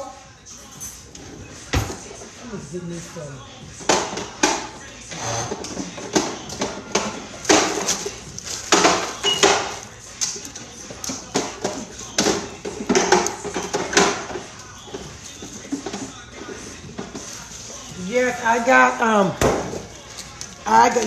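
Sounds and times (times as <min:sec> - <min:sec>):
kitchen items clattering: 0:00.0 - 0:21.0.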